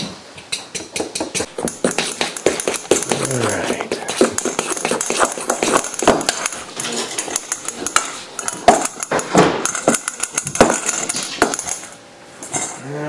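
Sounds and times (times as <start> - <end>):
metal bowl knocking and clattering: 0.6 - 12.7.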